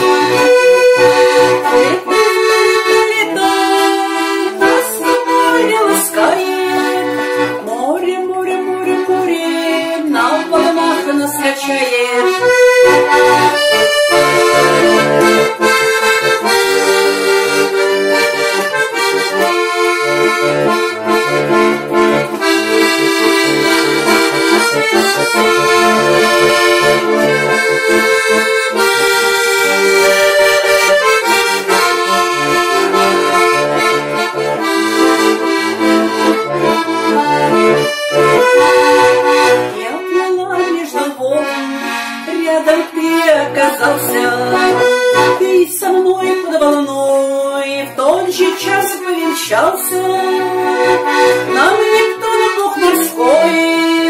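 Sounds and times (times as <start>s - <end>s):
button accordion playing: 0.0s - 54.0s.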